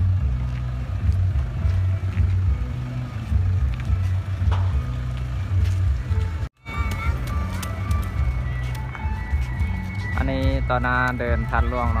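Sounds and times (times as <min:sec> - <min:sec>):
music with heavy pulsing bass: 0:00.0 - 0:12.0.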